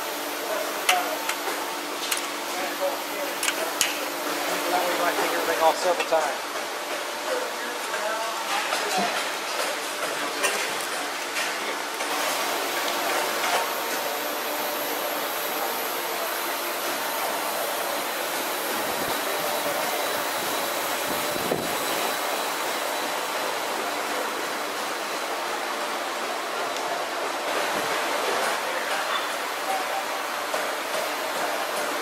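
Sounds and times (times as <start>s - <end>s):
rushing workshop noise: 0.0s - 32.0s.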